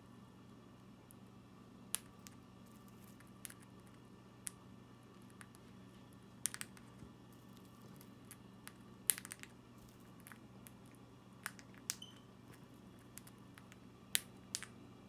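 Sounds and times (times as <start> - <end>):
beak cracking seeds: 1.9 - 5.8, 6.4 - 14.8.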